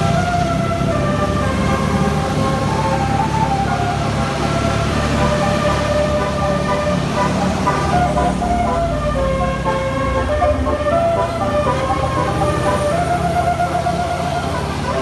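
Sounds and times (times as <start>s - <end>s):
multi-tone bus horn tune: 0.0s - 15.0s
vehicle engine running: 0.0s - 15.0s.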